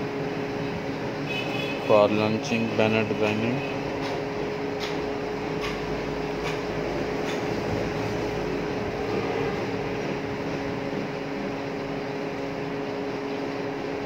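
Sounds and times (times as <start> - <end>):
machine hum and hiss: 0.0 - 14.0.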